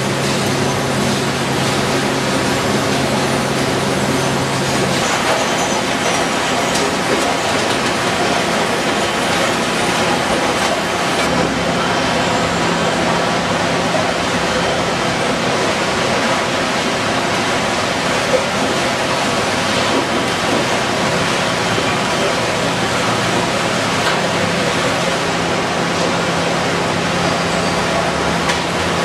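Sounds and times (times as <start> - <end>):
conveyor belts and sorting machinery: 0.0 - 29.0.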